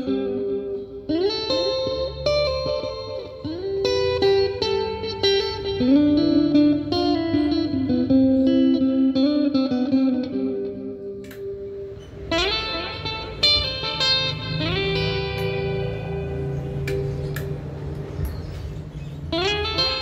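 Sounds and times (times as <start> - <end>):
clean electric guitar lead line: 0.0 - 20.0.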